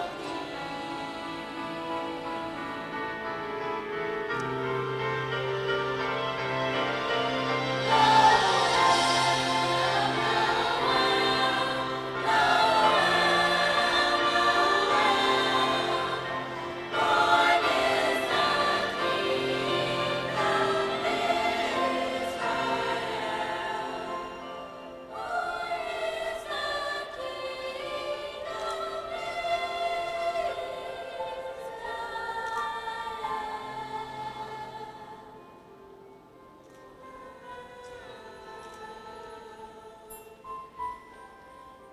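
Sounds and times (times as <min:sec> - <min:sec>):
choir singing: 0:00.0 - 0:35.8, 0:37.0 - 0:40.6.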